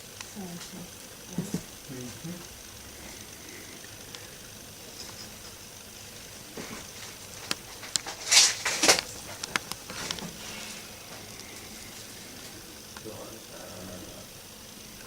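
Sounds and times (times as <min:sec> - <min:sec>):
soldering iron sizzling hiss: 0:00.0 - 0:15.0.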